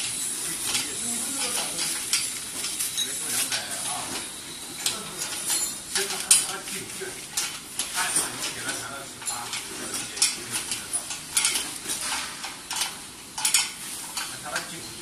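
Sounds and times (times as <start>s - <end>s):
spanners clinking on metal: 0.0s - 15.0s.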